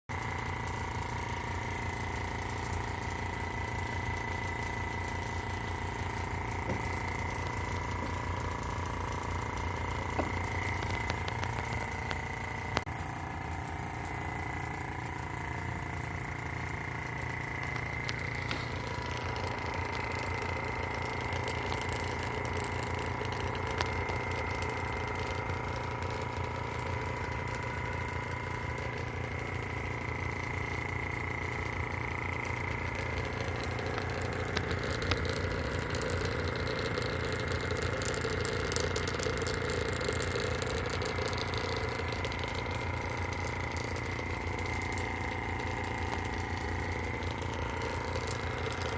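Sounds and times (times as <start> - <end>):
vacuum pump chugging: 0.1 - 48.9
faint ticks: 0.2 - 48.9.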